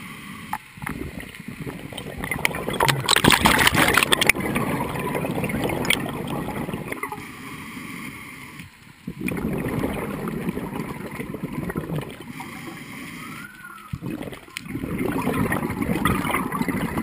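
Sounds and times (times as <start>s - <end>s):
diver breathing with bubbles: 0.0s - 17.0s.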